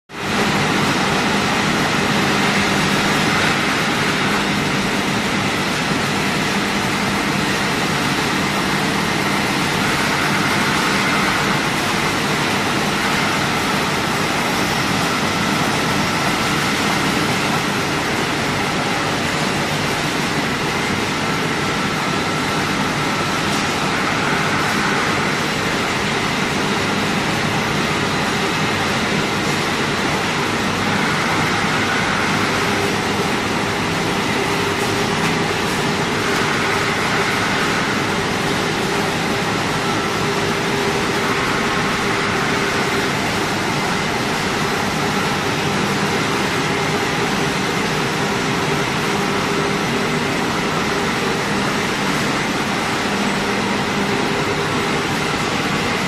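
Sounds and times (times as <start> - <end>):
production line machinery whirring: 0.1 - 56.0.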